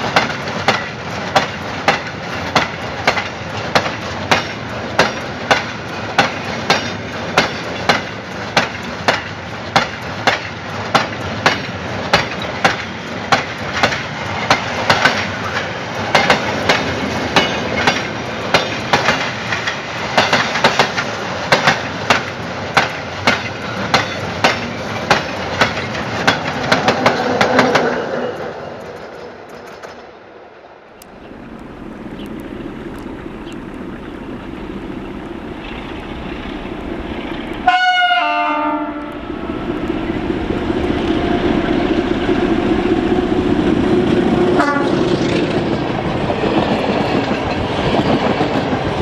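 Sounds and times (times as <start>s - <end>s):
wheels clicking over rail joints: 0.0s - 30.1s, 31.0s - 38.4s, 43.7s - 49.0s
train rolling rumble: 0.0s - 49.0s.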